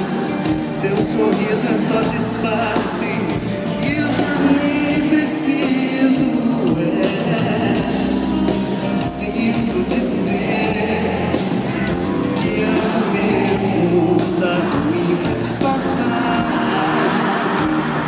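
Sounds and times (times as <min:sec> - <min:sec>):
live band playing ballad: 0:00.0 - 0:18.0
person singing: 0:00.0 - 0:18.0.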